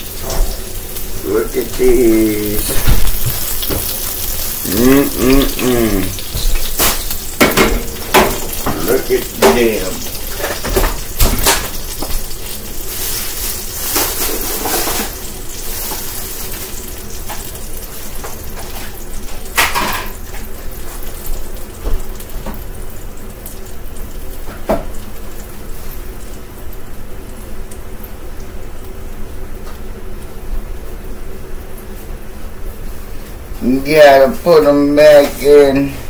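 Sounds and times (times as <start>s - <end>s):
chicken wings sizzling on a pan: 0.0s - 36.0s.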